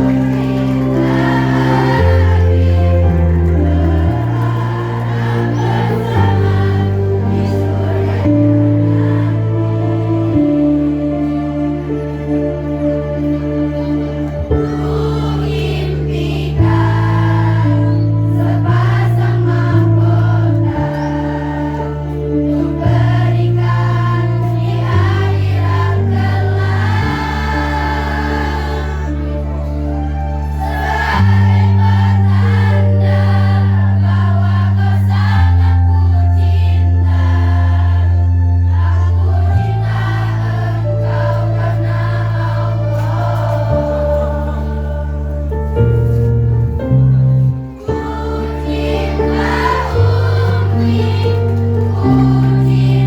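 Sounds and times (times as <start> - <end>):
choir singing with accompaniment: 0.0 - 53.0
long held bass notes: 0.0 - 53.0.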